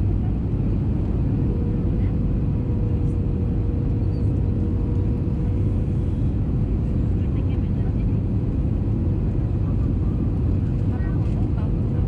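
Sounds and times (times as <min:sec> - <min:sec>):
constant thin hum: 0:00.0 - 0:12.0
deep rumble of engines and airflow: 0:00.0 - 0:12.0.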